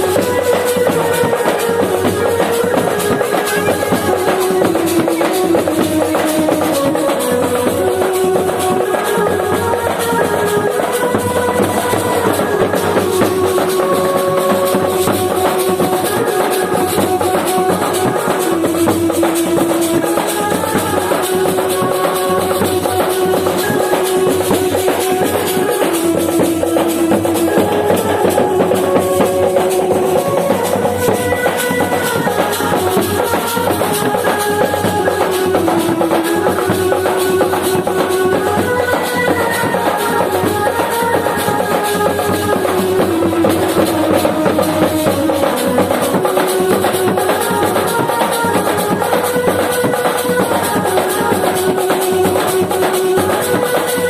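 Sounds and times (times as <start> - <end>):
drum and shaker percussion: 0.0 - 54.0
melody with held notes: 0.0 - 54.0.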